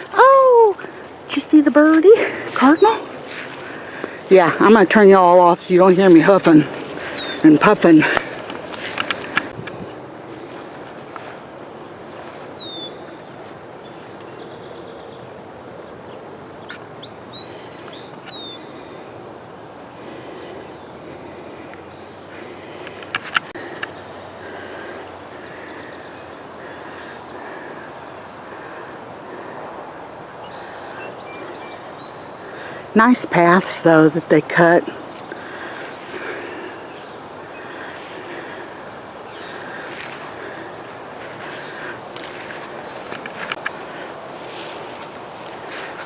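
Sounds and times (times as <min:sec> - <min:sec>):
insects chorus: 0:00.0 - 0:46.0.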